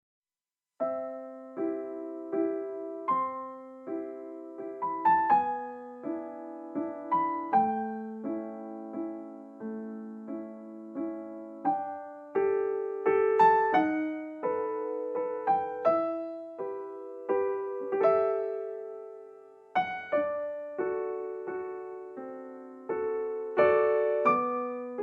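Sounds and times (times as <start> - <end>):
slow piano chords: 0.8 - 25.0.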